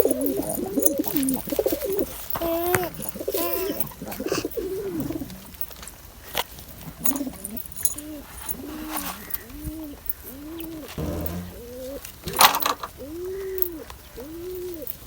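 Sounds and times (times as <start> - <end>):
pigeons cooing: 0.0 - 5.3, 7.0 - 12.0, 13.0 - 15.0.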